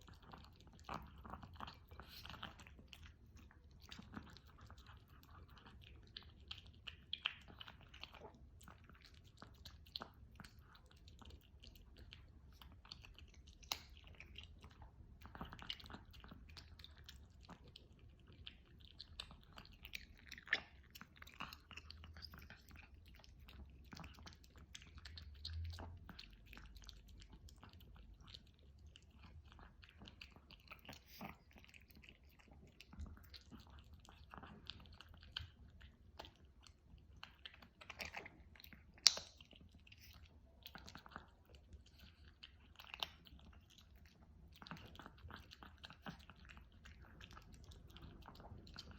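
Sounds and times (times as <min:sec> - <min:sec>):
dog chewing: 0:00.0 - 0:48.9.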